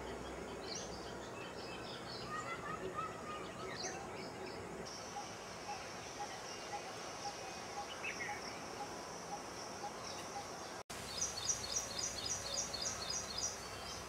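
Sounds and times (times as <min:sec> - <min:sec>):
birds chirping: 0:00.0 - 0:14.0
steady high hiss: 0:00.0 - 0:14.0.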